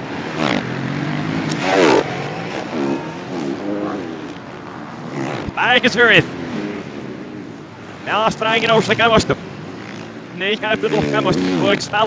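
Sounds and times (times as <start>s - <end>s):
motocross engines revving reversed: 0.0s - 12.0s.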